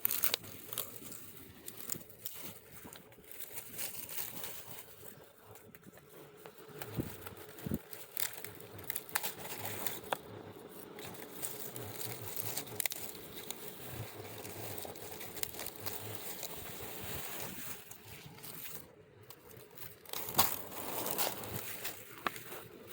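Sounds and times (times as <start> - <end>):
dry leaves rustling and crackling: 0.0 - 22.9.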